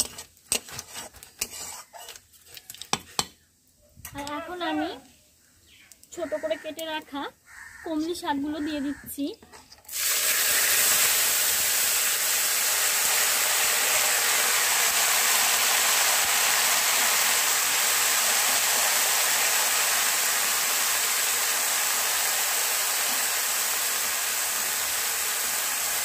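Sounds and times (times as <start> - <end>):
greens sizzling in hot oil: 0.0 - 3.4, 5.7 - 7.2, 9.9 - 26.0.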